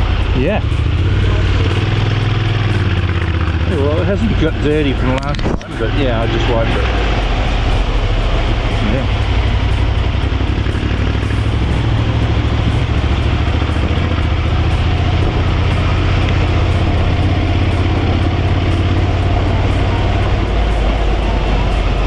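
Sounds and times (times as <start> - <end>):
motorcycle engine running: 0.0 - 22.0
road noise: 0.0 - 22.0
wind rushing: 0.0 - 22.0.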